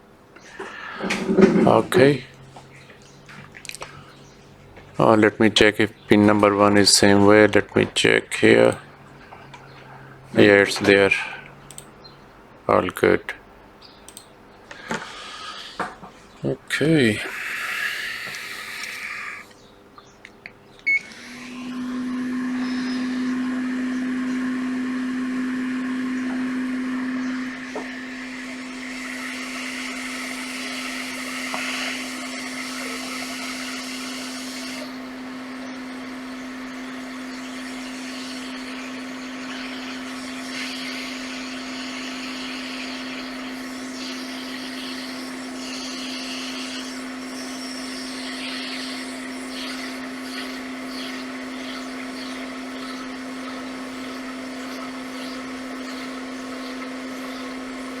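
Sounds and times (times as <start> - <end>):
hot-air station blowing: 0.0 - 11.8, 14.7 - 19.7, 20.8 - 58.0.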